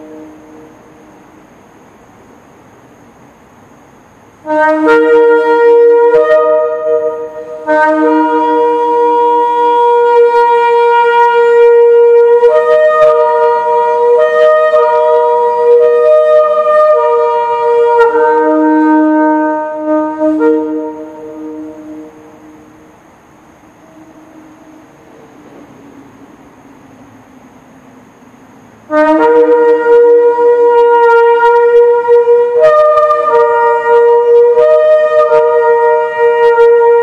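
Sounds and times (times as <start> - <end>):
shofar blasts: 0.0 - 1.2, 4.4 - 23.1, 23.7 - 25.7, 28.8 - 37.0.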